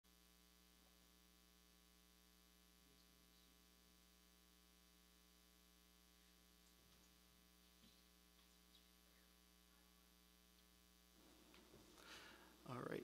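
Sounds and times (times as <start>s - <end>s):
faint electrical mains hum: 0.1s - 13.0s.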